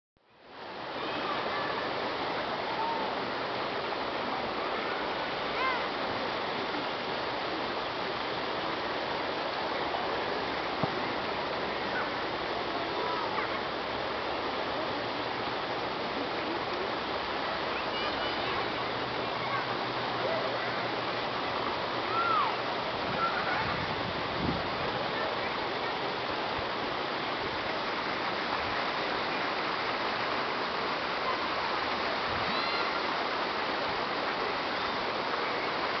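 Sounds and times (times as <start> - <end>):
flowing water: 0.2 - 36.0.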